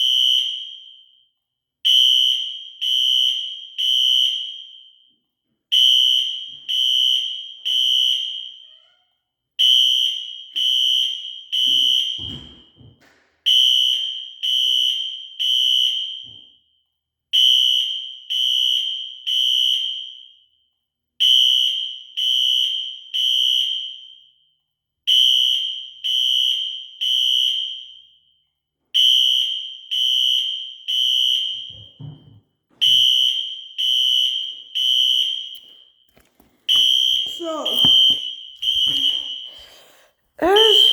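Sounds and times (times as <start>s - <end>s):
fire alarm horn blasts: 0.0s - 9.0s, 9.6s - 12.4s, 13.5s - 32.0s, 32.8s - 36.1s, 36.7s - 39.6s, 40.5s - 40.9s.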